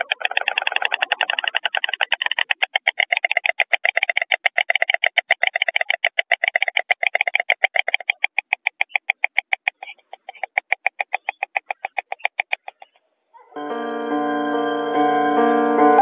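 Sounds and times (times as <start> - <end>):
storks clattering bills: 0.0 - 13.0.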